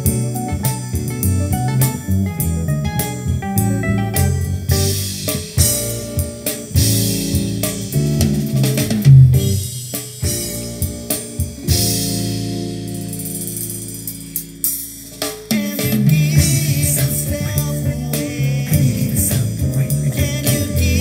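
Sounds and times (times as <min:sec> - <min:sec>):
loud drum hit: 0:00.0 - 0:12.6, 0:15.1 - 0:21.0
band music through loudspeakers: 0:00.0 - 0:21.0.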